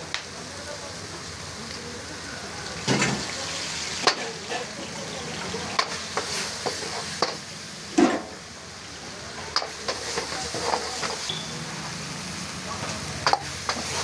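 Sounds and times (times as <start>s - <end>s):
sauce sizzling in a wok: 0.0s - 14.0s.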